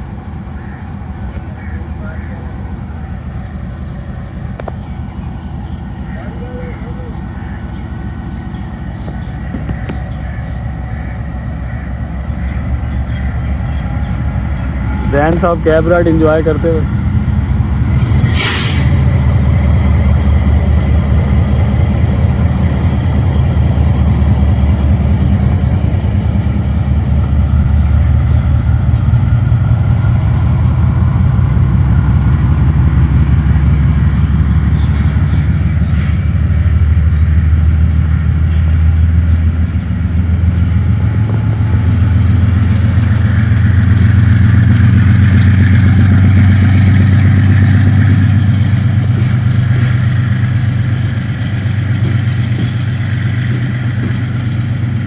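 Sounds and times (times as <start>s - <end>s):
locomotive engine droning: 0.0s - 55.0s.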